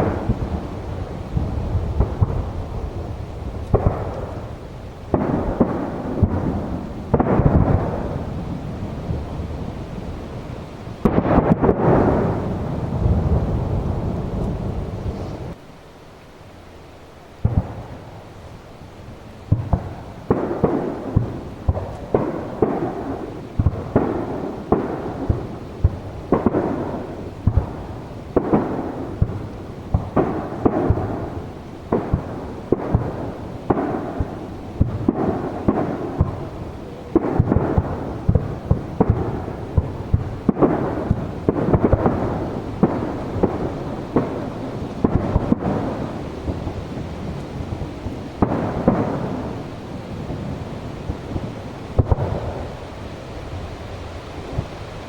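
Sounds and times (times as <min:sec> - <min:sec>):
rolling echo rumble: 0:00.0 - 0:15.6, 0:17.4 - 0:55.0
fireworks booming: 0:00.0 - 0:15.7, 0:17.4 - 0:55.0.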